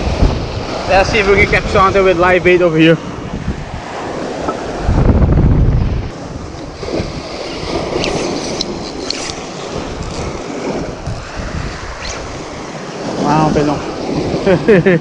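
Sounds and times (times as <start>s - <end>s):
sea waves breaking on rocks: 0.0s - 14.7s
wind buffeting microphone: 0.0s - 14.7s.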